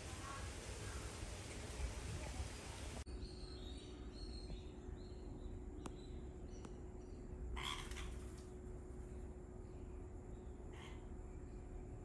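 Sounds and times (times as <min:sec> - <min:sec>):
low steady hum: 0:00.0 - 0:12.0
soft outdoor hiss: 0:00.0 - 0:12.0.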